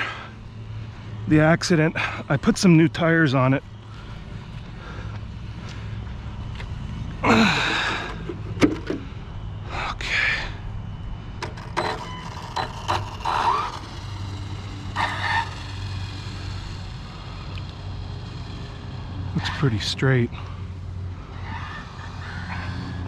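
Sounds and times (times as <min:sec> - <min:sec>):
rc car motor driving: 0:00.0 - 0:09.3, 0:11.2 - 0:23.0.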